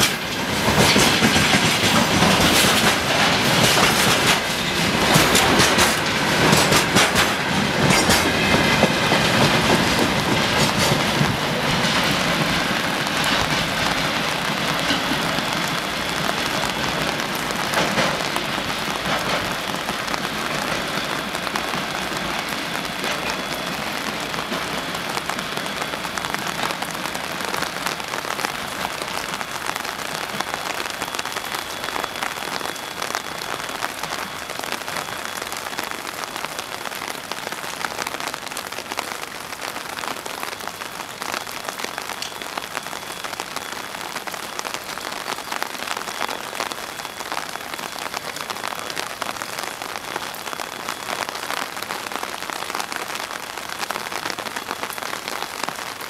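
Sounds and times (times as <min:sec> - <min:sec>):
rain on concrete and puddles: 0:00.0 - 0:56.0.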